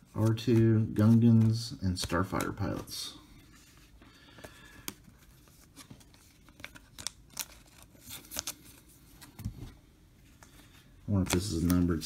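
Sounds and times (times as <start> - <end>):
trading cards flicking and rustling: 0.0 - 9.7, 10.3 - 12.0.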